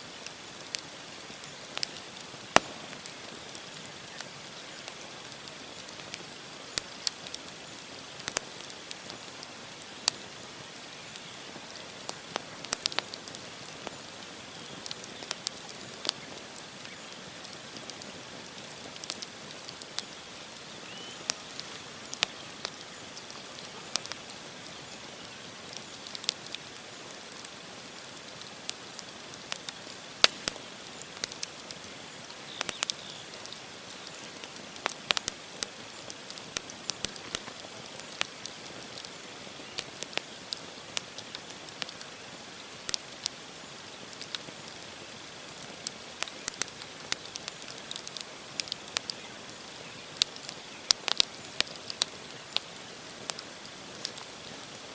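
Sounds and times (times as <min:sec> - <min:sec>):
campfire crackling and popping: 0:00.0 - 0:54.9
fire hissing: 0:00.1 - 0:54.9.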